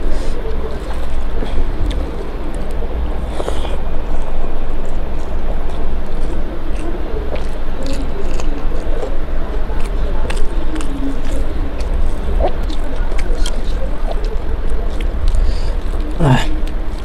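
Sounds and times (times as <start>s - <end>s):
chewing and mouth-smacking: 0.0s - 17.0s.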